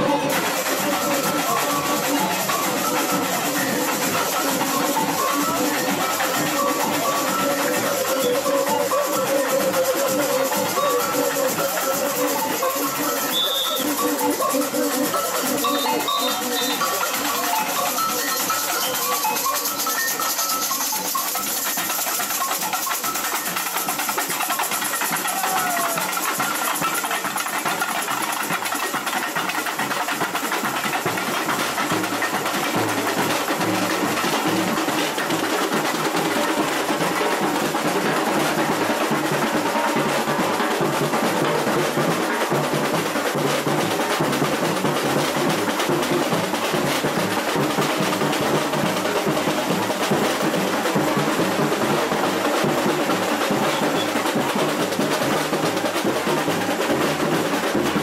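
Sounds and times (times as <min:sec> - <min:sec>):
rattling snare drums: 0:00.0 - 0:58.0.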